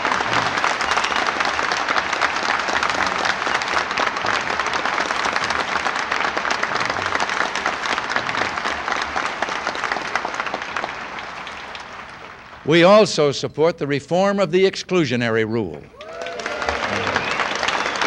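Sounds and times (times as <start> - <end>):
audience applauding: 0.0 - 12.9, 16.0 - 18.0.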